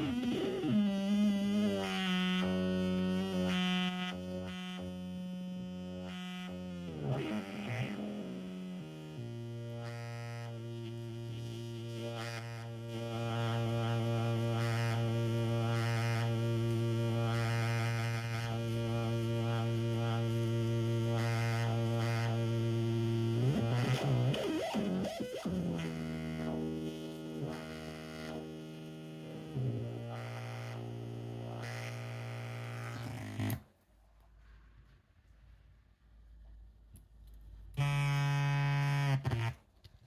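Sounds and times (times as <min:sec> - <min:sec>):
buzzy synth drone: 0:00.0 - 0:33.6.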